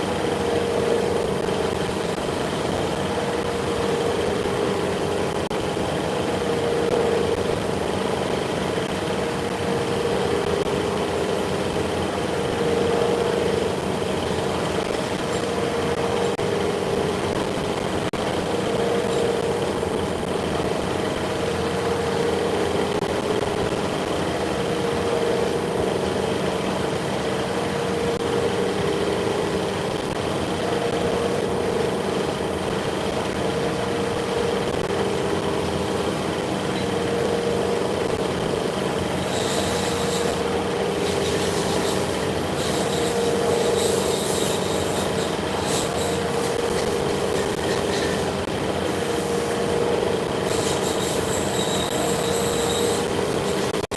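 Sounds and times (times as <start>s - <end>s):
faint high whine: 0.0s - 53.9s
workshop machinery hum: 0.0s - 53.9s.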